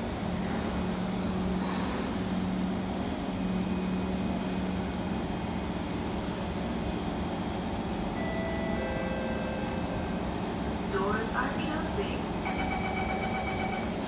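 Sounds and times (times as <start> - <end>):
train car ventilation rushing hum: 0.0 - 14.0.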